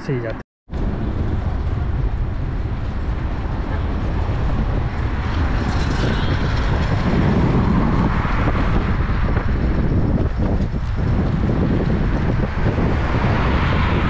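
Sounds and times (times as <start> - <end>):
traffic noise: 0.0 - 14.0
wind noise on microphone: 0.0 - 14.0.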